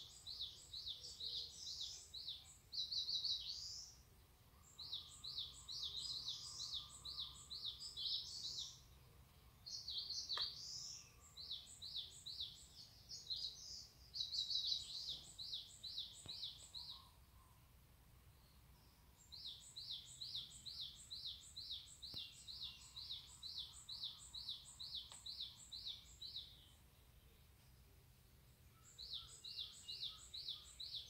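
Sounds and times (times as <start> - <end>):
bird song with high chirping: 0.0 - 31.0.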